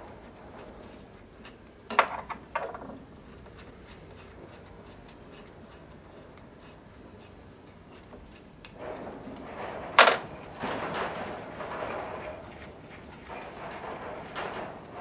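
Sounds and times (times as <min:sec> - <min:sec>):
faint ticking and rubbing: 0:00.0 - 0:15.0.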